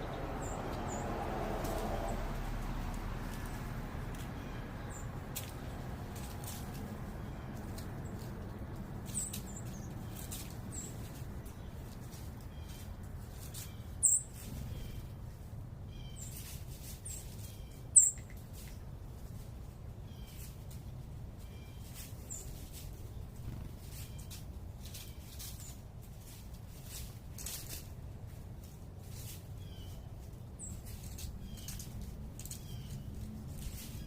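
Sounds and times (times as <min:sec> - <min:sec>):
low urban rumble: 0:00.0 - 0:34.0
small birds chirping: 0:00.0 - 0:34.0.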